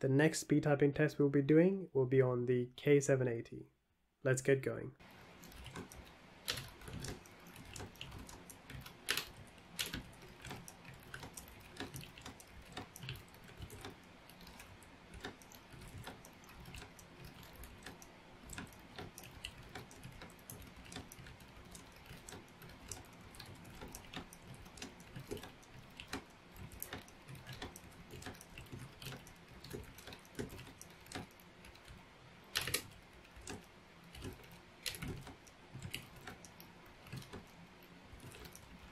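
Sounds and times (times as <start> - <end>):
fast typing on a keyboard: 5.0 - 38.9.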